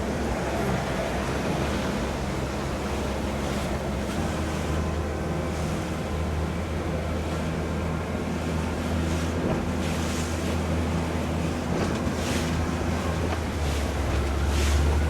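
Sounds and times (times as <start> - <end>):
motorboat engine drone: 0.0 - 15.0
water rushing along hull: 0.0 - 15.0.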